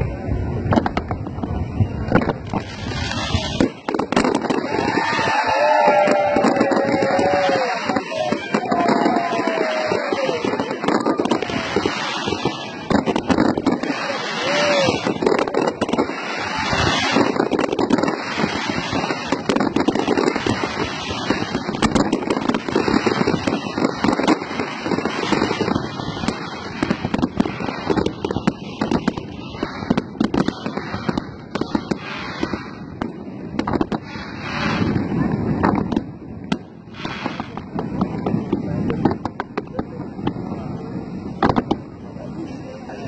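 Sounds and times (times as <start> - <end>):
fireworks popping and crackling: 0.0 - 43.0.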